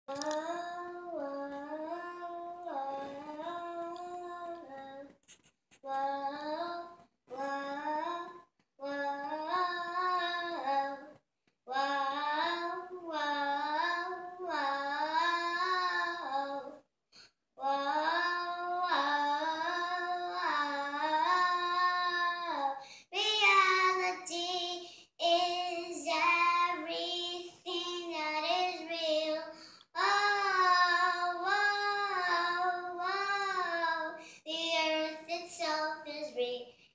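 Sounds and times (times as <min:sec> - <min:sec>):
girl singing unaccompanied: 0:00.1 - 0:05.2, 0:05.8 - 0:16.9, 0:17.6 - 0:36.9.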